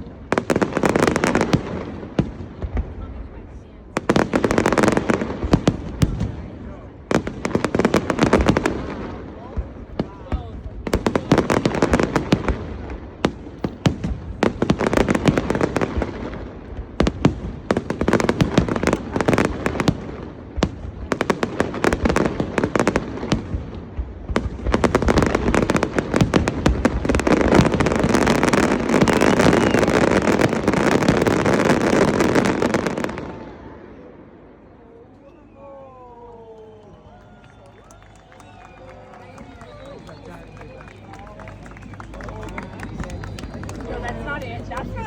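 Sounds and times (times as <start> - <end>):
fireworks bangs and crackling: 0.0 - 34.2, 37.8 - 45.0.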